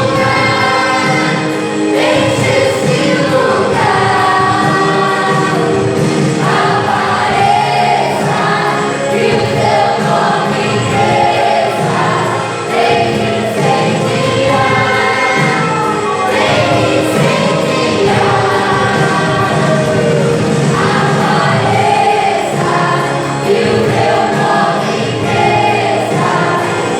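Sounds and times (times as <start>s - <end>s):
group singing gospel song: 0.0s - 26.9s.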